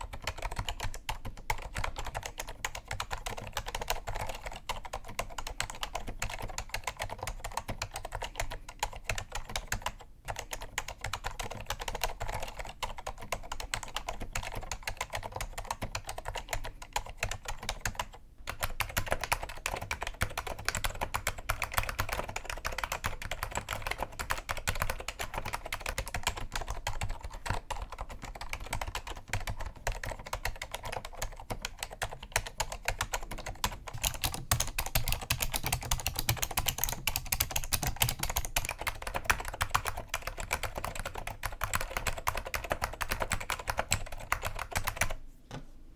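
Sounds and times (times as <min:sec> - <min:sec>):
fast typing on keyboard: 0:00.0 - 0:45.2.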